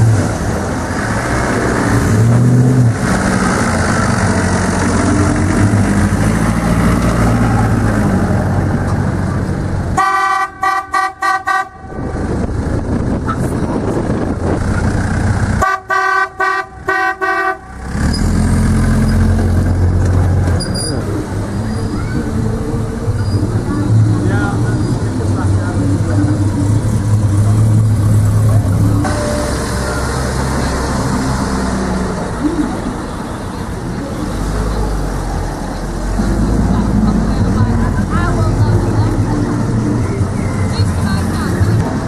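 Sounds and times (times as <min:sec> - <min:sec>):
car engines running: 0:00.0 - 0:42.0.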